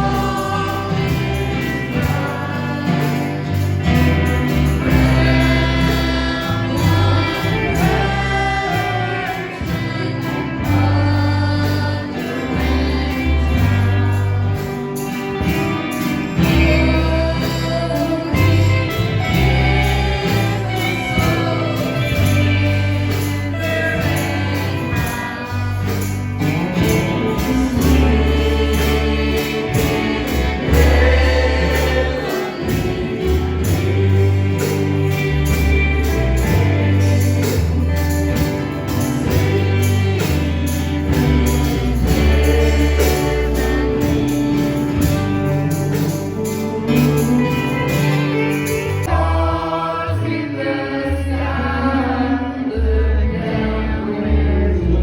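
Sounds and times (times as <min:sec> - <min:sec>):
band accompaniment with bass: 0:00.0 - 0:55.0
gospel choir singing: 0:00.0 - 0:55.0.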